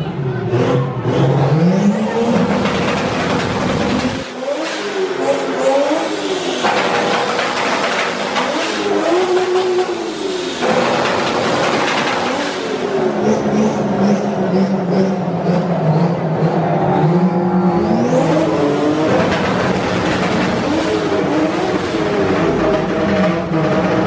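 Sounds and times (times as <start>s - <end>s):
loud rushing noise: 0.0s - 24.0s
car engine revving: 0.3s - 24.0s.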